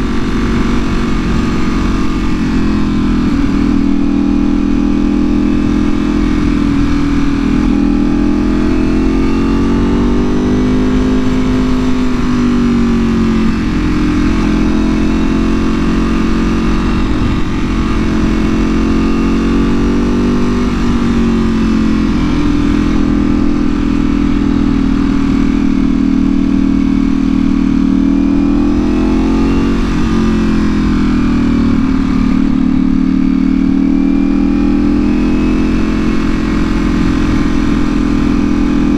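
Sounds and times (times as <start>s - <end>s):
wind noise on microphone: 0.0s - 38.9s.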